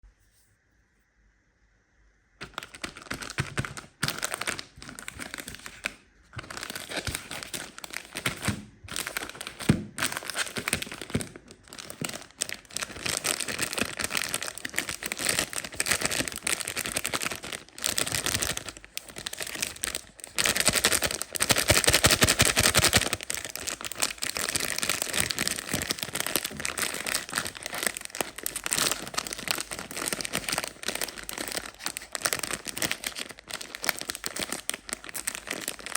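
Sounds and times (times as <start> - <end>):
plastic wrappers crinkling: 2.4 - 35.9.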